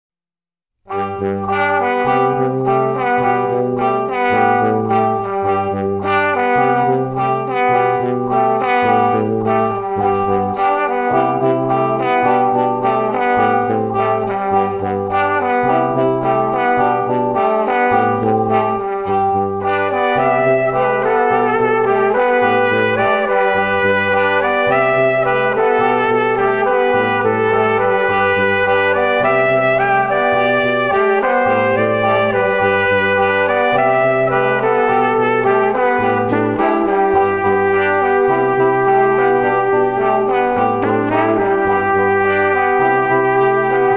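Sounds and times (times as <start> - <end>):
instrumental music with brass: 0.8 - 43.9.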